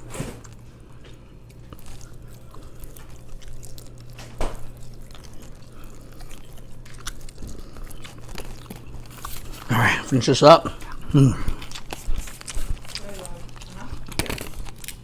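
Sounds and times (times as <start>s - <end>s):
chewing and biting food: 0.0s - 15.0s
steady low hum: 0.0s - 15.0s.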